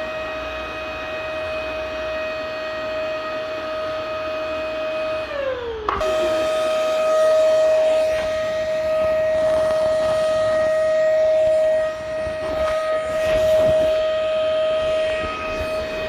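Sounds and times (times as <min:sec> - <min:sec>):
vacuum cleaner motor whining: 0:00.0 - 0:16.0.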